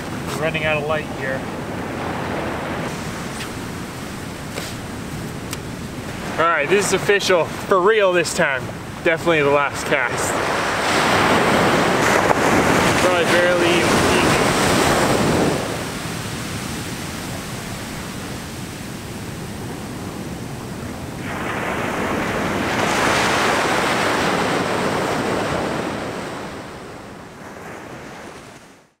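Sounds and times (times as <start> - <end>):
wave breaking: 0.0 - 28.8
ocean waves on beach: 0.0 - 29.0.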